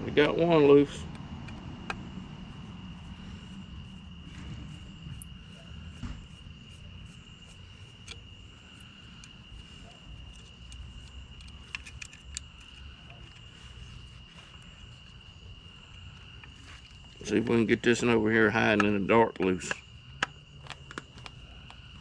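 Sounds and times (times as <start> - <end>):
night insects droning: 0.0 - 22.0.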